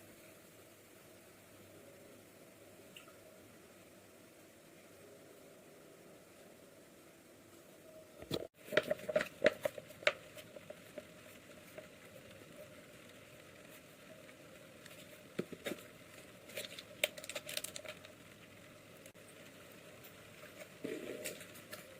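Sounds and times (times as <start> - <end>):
faint steady hiss: 0.0 - 21.9.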